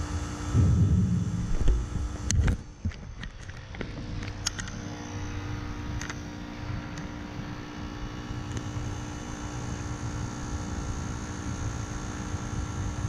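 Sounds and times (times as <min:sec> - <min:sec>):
heat pump humming: 0:00.0 - 0:13.0.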